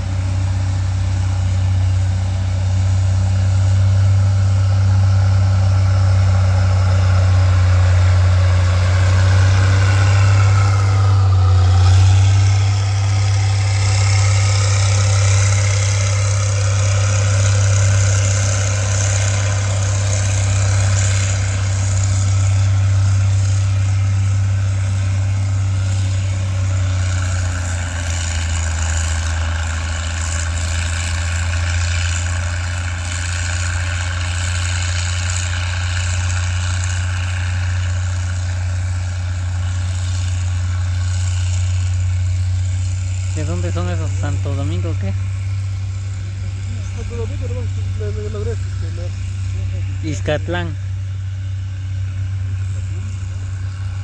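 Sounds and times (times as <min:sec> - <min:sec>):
engines idling hum: 0:00.0 - 0:54.0
vehicles driving past on dirt: 0:00.0 - 0:54.0.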